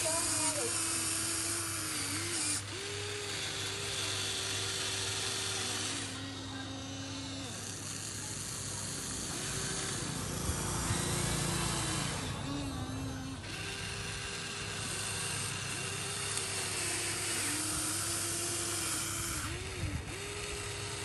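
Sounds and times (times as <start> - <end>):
toy excavator motors whining: 0.0 - 21.0.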